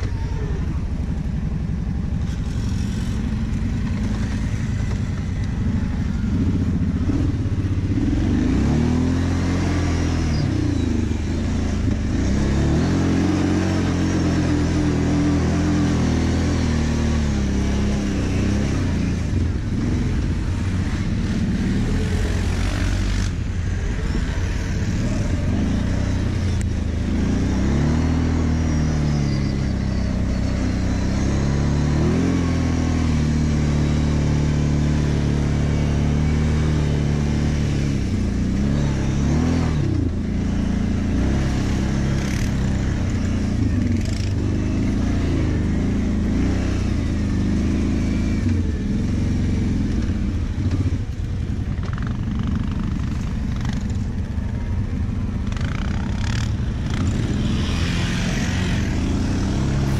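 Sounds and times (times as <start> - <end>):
quad bike engine revving: 0.0 - 59.9.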